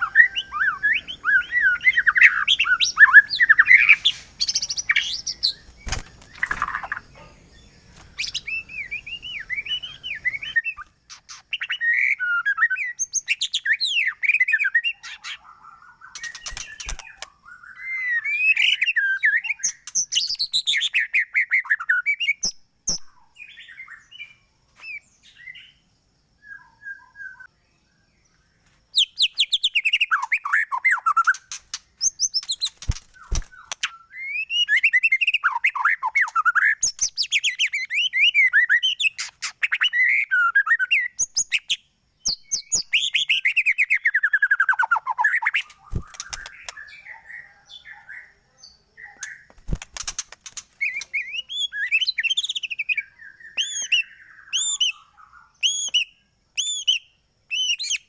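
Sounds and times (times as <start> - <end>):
songbird singing whistled phrases: 0.0 - 25.8, 26.4 - 27.6, 28.9 - 49.8, 50.5 - 58.0.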